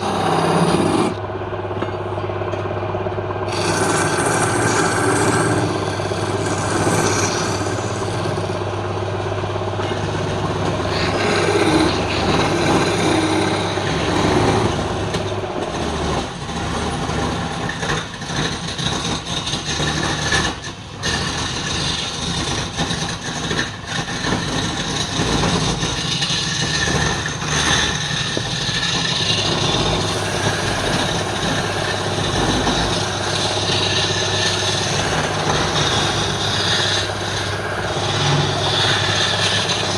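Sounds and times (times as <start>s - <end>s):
lathe motor hum: 0.0s - 39.9s
tool scraping spinning wood: 0.0s - 39.9s.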